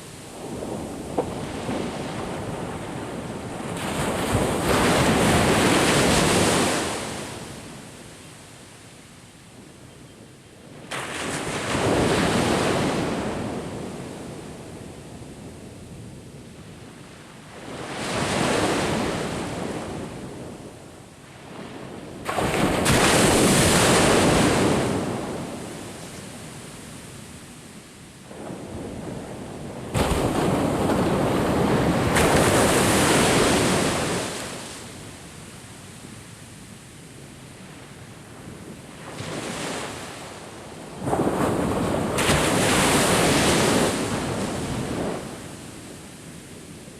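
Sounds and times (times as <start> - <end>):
surf waves breaking on beach: 0.0 - 8.6, 10.8 - 16.1, 17.1 - 46.9.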